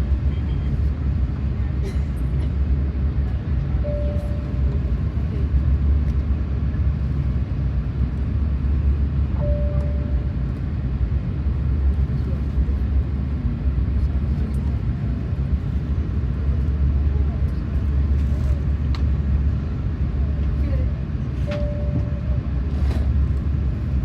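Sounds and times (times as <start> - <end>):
aircraft cabin rumble: 0.0 - 24.0.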